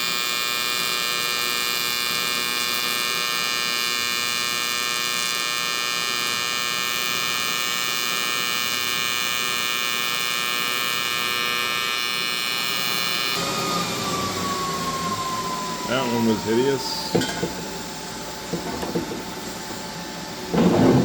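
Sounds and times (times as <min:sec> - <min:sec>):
welding arc buzzing: 0:00.0 - 0:21.0.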